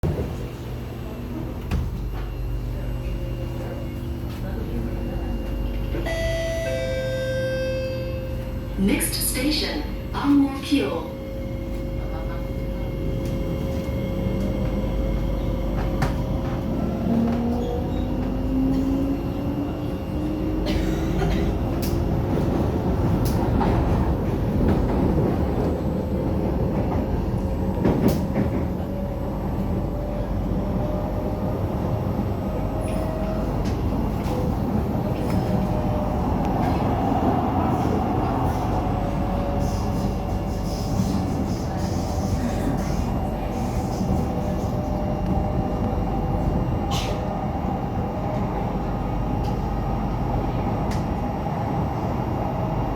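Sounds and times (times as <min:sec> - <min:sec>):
train wheels rumbling on track: 0:00.0 - 0:52.9.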